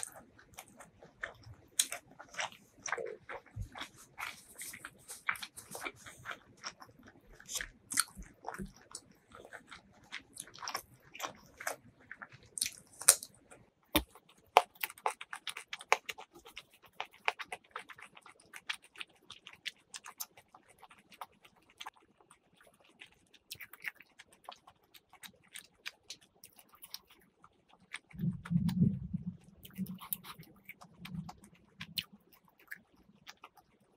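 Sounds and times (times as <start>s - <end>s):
wet chewing smacks and clicks: 0.0s - 33.9s.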